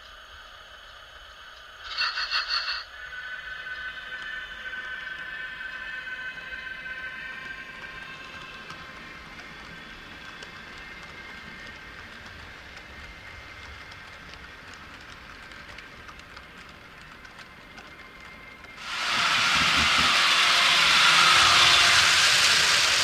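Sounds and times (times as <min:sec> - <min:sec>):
model train rolling on track: 0:00.0 - 0:23.0.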